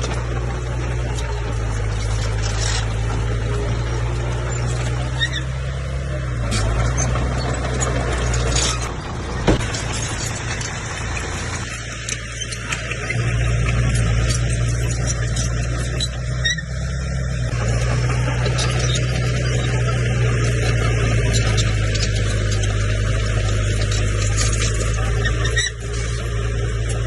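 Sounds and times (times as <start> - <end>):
clicks and squeaks: 0.0 - 5.7, 6.3 - 27.0
bulldozer diesel engine running: 0.0 - 27.0.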